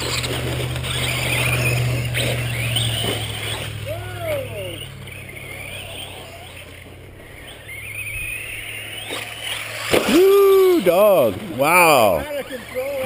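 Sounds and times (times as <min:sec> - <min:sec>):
high motor whine: 0:00.0 - 0:13.0.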